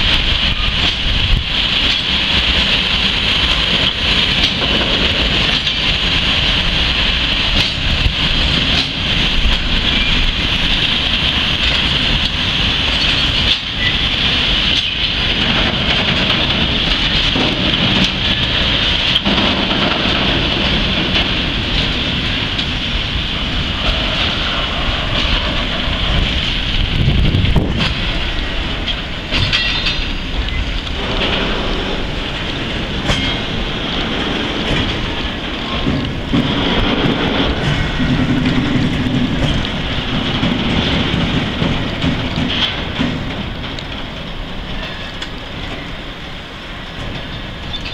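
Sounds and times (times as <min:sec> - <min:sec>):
freight train rolling past: 0:00.0 - 0:47.9
steel wheels clacking on rails: 0:00.0 - 0:47.9.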